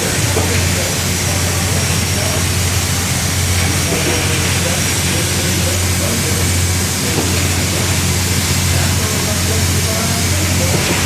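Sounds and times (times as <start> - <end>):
engine room machinery hum: 0.0 - 11.0
faint voices: 0.0 - 11.0
hiss: 0.0 - 11.0.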